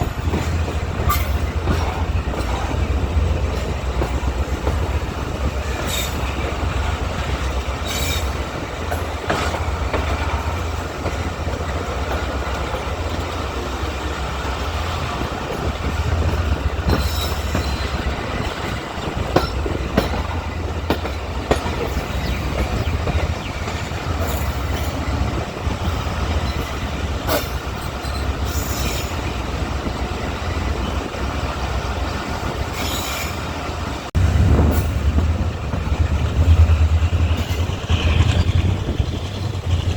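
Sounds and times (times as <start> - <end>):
train wheel squeals: 0.0 - 2.8, 3.8 - 31.1, 31.9 - 33.8, 36.5 - 39.9
train coaches rumbling: 0.0 - 39.9.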